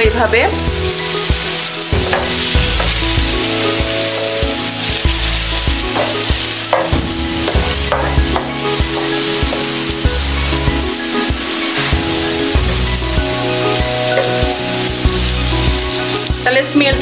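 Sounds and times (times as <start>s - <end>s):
background music: 0.0s - 17.0s
vegetables sizzling in a pan: 0.0s - 17.0s
spatula scraping and knocking pan: 1.3s - 16.4s.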